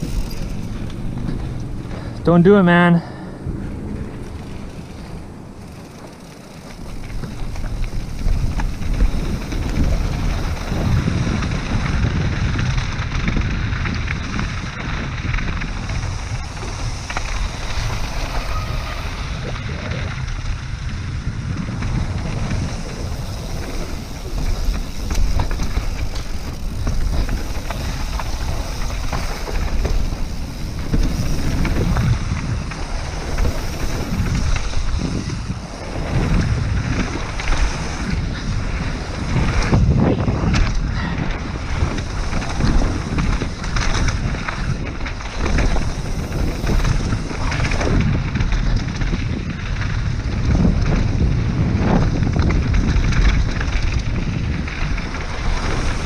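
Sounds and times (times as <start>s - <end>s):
bike clattering on rough trail: 0.0s - 56.0s
tyres rumbling on dirt: 0.0s - 56.0s
wind buffeting microphone: 0.0s - 56.0s.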